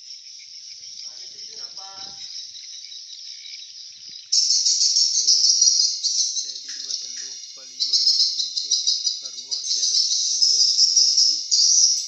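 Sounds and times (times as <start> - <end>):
swiftlets twittering: 0.0 - 12.0.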